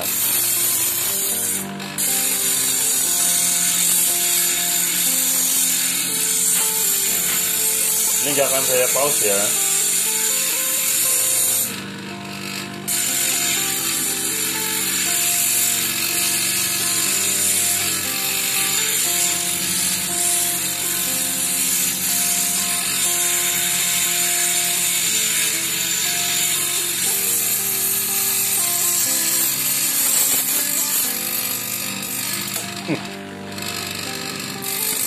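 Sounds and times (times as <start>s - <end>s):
angle grinder grinding metal: 0.0s - 35.0s
background music: 0.0s - 35.0s.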